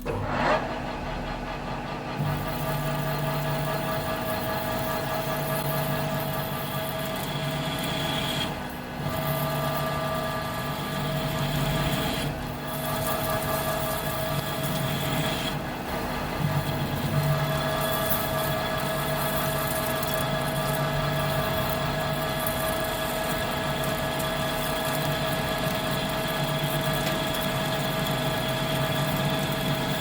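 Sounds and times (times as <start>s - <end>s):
metal lathe humming and whining: 0.0s - 30.0s.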